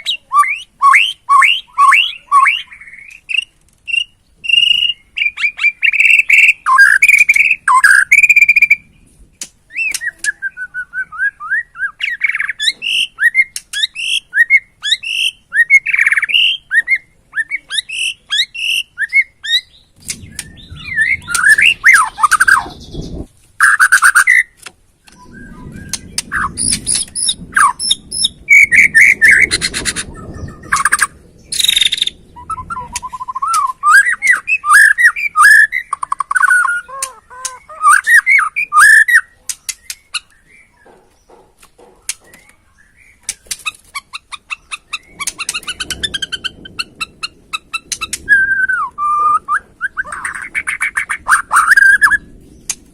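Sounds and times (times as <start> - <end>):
bird singing whistled phrases: 0.0 - 8.9, 9.7 - 40.9, 47.8 - 52.3.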